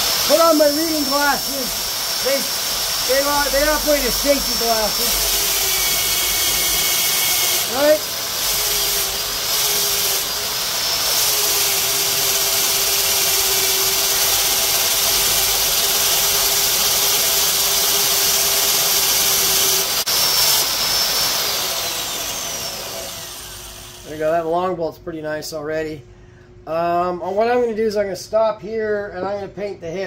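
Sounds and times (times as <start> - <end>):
electric drill motor hum: 0.0 - 24.3.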